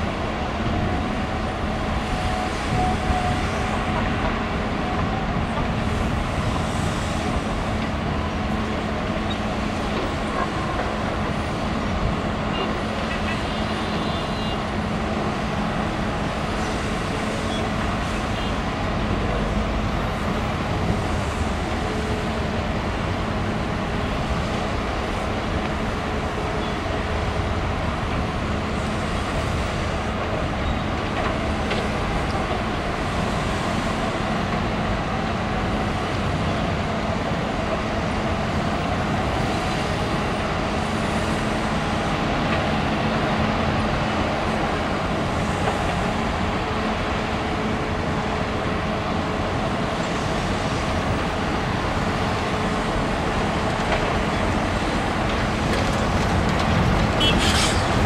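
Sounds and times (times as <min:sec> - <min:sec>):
diesel engines of heavy machinery: 0:00.0 - 0:58.0.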